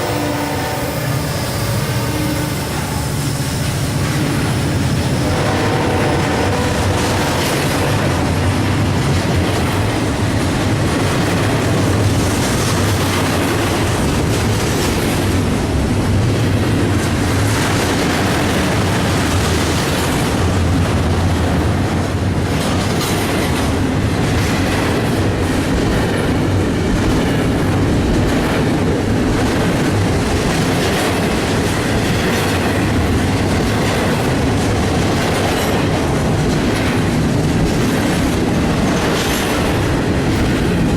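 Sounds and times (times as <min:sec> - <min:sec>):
freight train rumbling: 0:00.0 - 0:40.9
wheels clacking over rail joints: 0:00.0 - 0:40.9.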